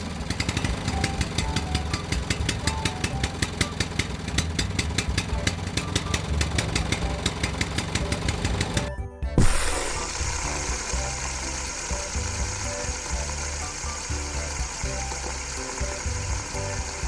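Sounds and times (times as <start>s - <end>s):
engine idling with clatter: 0.0s - 8.9s, 10.0s - 17.0s.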